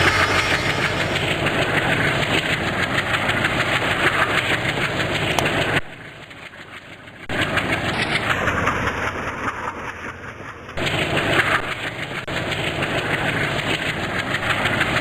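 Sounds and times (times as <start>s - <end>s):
train rumbling on rails: 0.0s - 5.8s, 7.3s - 15.0s.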